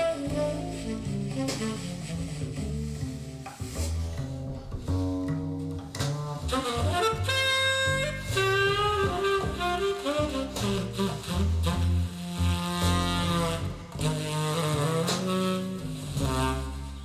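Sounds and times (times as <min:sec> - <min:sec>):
sliding horn melody: 0:00.0 - 0:04.4, 0:06.1 - 0:17.0
plucked bass notes: 0:00.0 - 0:17.0.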